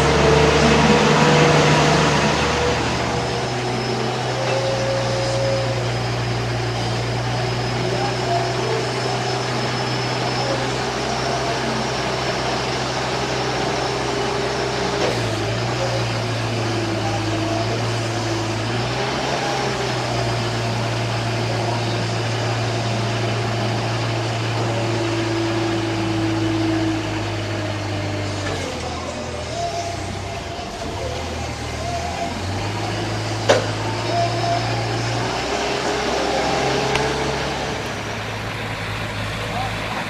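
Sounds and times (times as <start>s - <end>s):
forklift humming: 0.0s - 40.0s.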